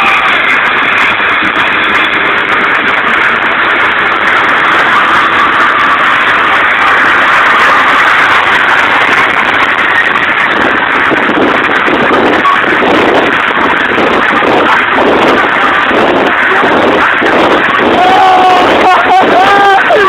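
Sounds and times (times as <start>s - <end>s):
low uneven rumbling: 0.0s - 19.9s
car engine and wind rush: 0.0s - 20.0s.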